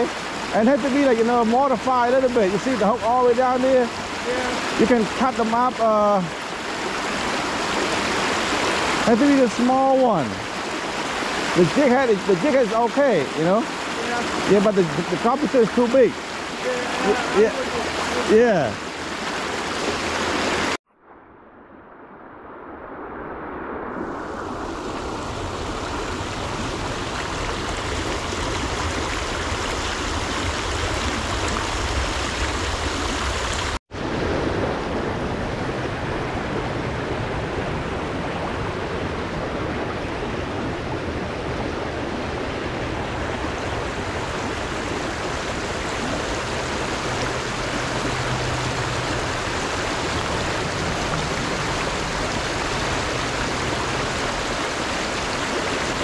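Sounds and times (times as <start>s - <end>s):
flowing river water: 0.0s - 20.8s, 23.7s - 56.0s.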